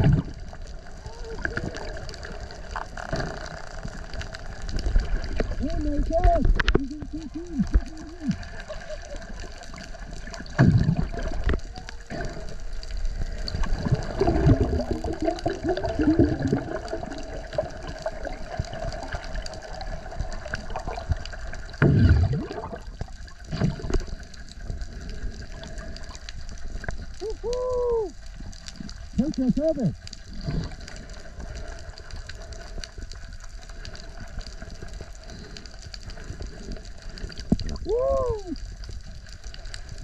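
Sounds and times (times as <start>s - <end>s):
underwater rushing and sloshing: 0.0s - 40.0s.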